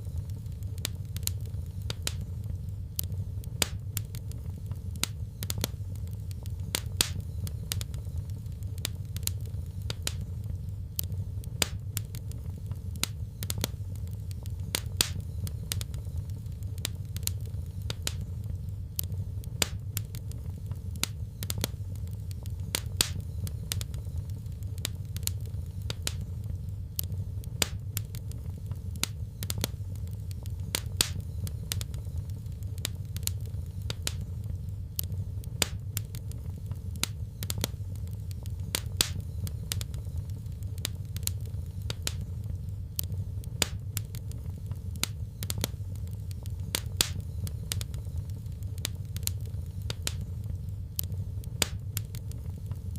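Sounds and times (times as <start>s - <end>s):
low rumble of flames: 0.0s - 52.9s
wood fire crackling: 0.0s - 52.9s.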